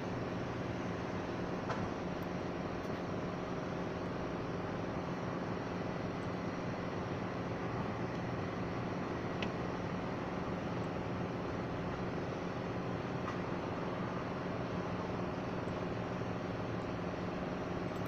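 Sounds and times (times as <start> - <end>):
machine droning hum: 0.0 - 18.0.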